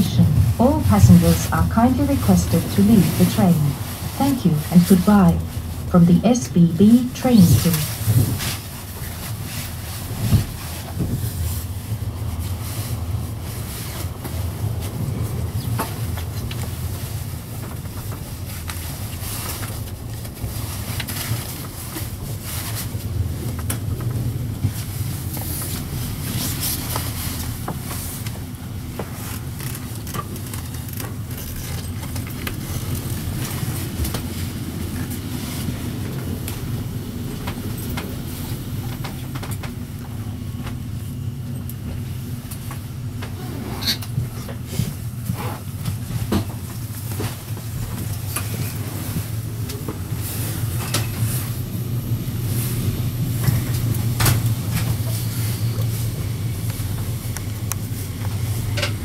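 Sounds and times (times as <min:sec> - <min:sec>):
train rumble from inside carriage: 0:00.0 - 0:59.0.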